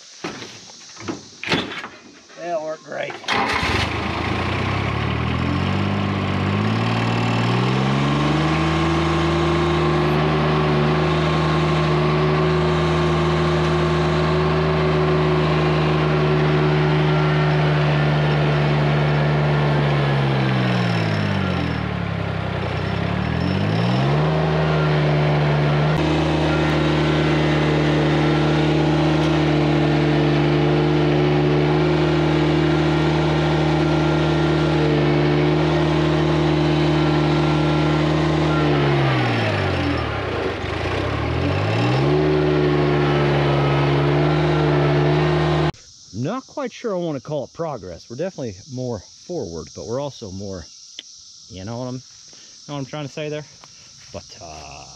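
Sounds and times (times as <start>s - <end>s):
mowing rig engine revving: 3.2s - 45.8s, 51.6s - 54.9s.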